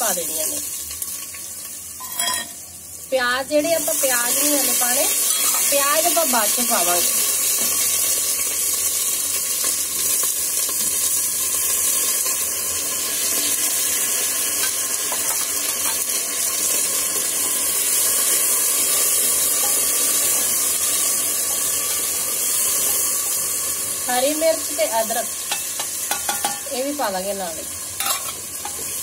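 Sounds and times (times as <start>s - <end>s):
vegetables sizzling in hot oil: 0.0s - 29.0s.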